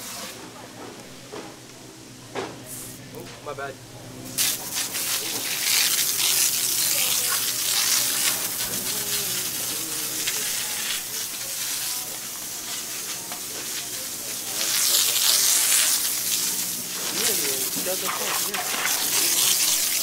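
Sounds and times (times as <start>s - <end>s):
hose spraying water on hard surface: 0.0s - 0.4s, 4.2s - 20.0s.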